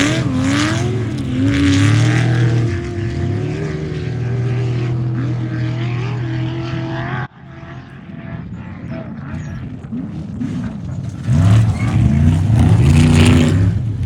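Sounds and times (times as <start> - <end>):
distant engine: 0.0 - 14.0
race vehicle engine running hard: 0.0 - 14.0.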